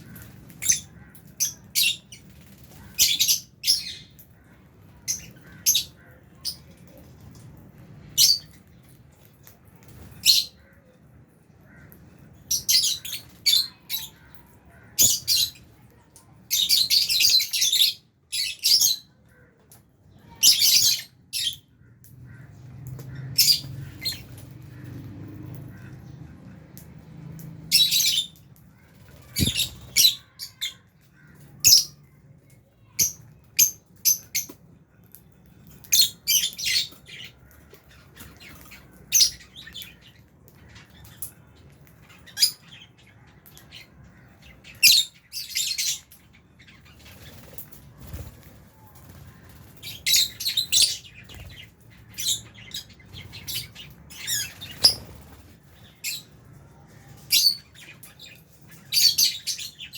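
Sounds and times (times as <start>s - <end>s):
lovebirds chirping: 8.0s - 34.6s, 35.4s - 59.9s.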